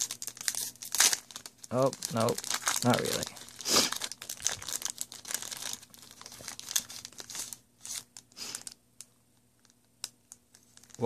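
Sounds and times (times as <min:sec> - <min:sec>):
wrapper crinkling and tearing: 0:00.0 - 0:08.8, 0:09.6 - 0:11.0.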